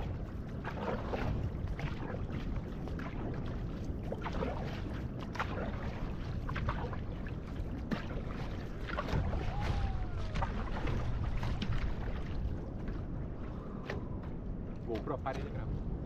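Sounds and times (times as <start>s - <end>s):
paddle strokes splashing: 0.0s - 15.8s
low rumble of water: 0.0s - 16.0s.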